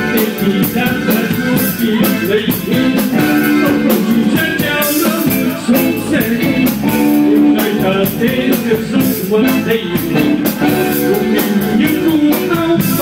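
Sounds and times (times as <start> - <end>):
band playing upbeat song: 0.0 - 13.0
person singing: 0.0 - 13.0.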